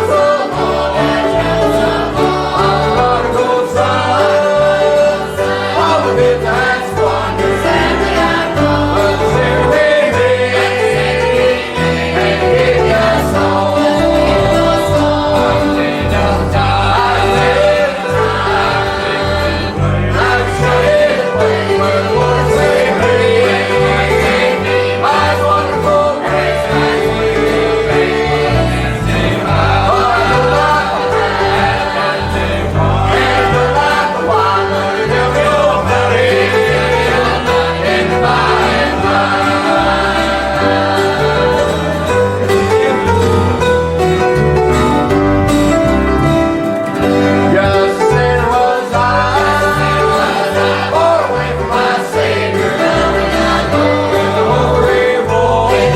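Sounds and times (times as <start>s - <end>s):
gospel singing: 0.0s - 55.9s.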